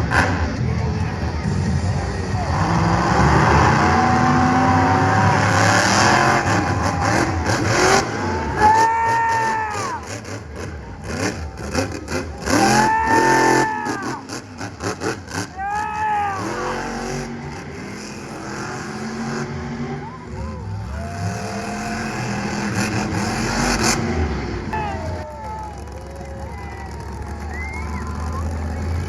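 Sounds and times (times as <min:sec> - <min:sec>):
monster truck engines revving: 0:00.0 - 0:29.0.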